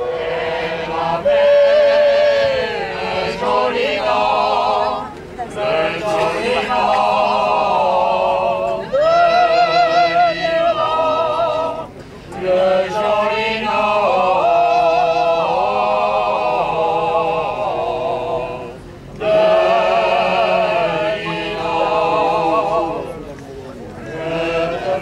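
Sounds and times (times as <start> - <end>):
choir singing slow song: 0.0 - 25.0.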